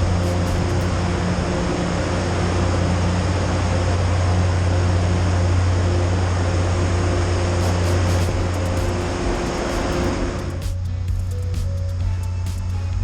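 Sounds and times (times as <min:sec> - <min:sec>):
road noise: 0:00.0 - 0:12.7
low rumble: 0:00.0 - 0:13.0.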